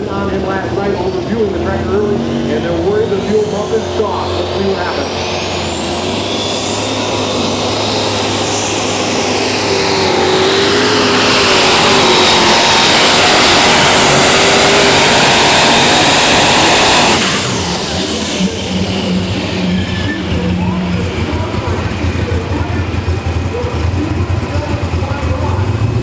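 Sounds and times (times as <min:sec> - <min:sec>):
high steady whine: 0:00.0 - 0:25.7
diesel engine under load: 0:00.0 - 0:26.0.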